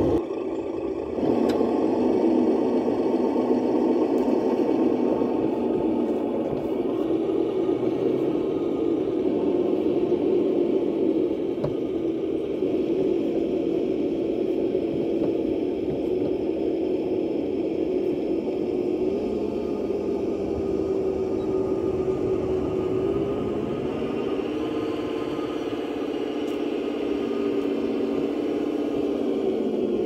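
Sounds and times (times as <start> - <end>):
golf cart motor droning: 0.0 - 30.0.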